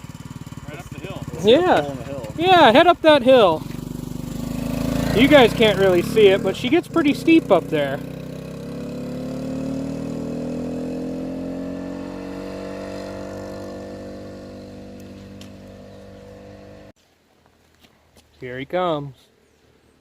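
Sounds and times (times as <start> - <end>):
motorcycle engine pulling away: 0.0 - 17.0.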